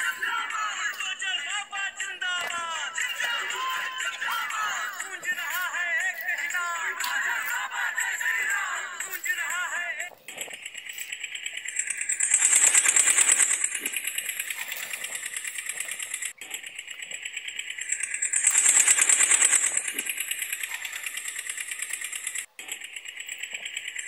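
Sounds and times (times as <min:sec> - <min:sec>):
toy electronic engine sound: 0:00.0 - 0:24.0.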